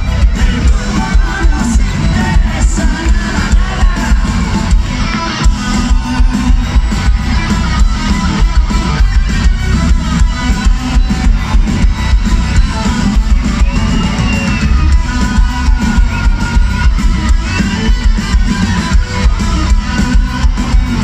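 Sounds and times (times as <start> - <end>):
lead guitar line bending in pitch: 0.0 - 21.0
rock band playing live: 0.0 - 21.0.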